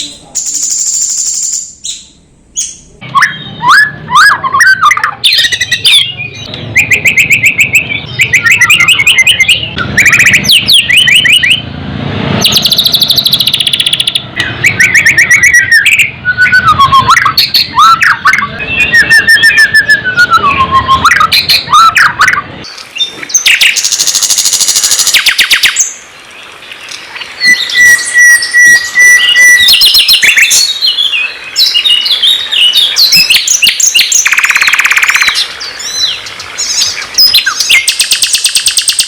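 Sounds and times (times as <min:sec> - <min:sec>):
songbird singing: 0:00.0 - 0:11.8, 0:12.4 - 0:39.0.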